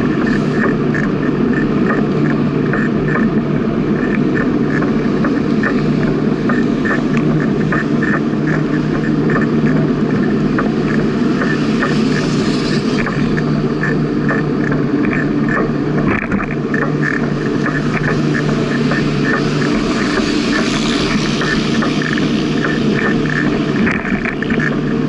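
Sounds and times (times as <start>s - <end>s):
bicycle tyre and wind noise: 0.0s - 25.0s
low hum: 0.0s - 25.0s.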